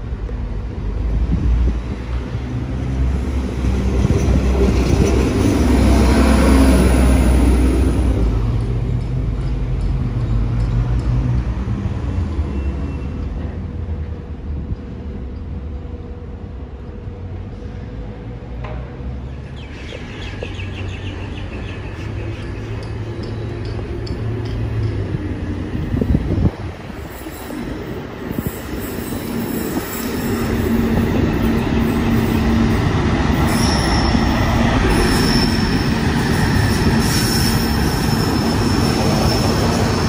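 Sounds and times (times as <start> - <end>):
train passing rumble: 0.0 - 40.0.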